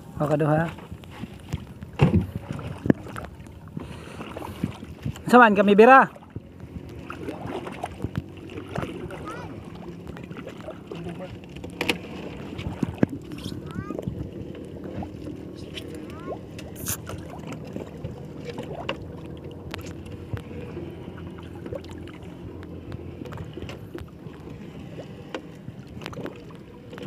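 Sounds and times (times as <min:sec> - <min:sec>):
water lapping against boat hull: 0:00.0 - 0:27.0.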